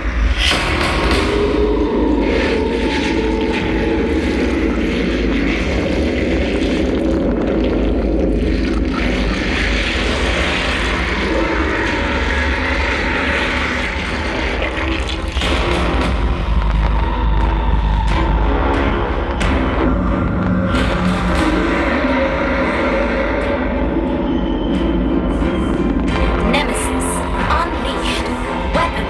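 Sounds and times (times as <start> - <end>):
droning rumble soundtrack: 0.0 - 29.0.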